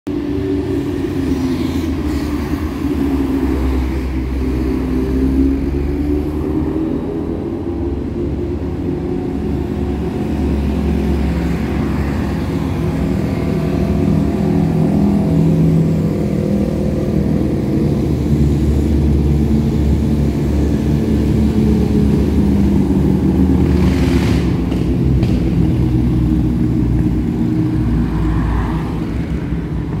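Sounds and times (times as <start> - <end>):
cars passing: 0.1 - 30.0
motorcycle engines passing slowly: 0.1 - 30.0.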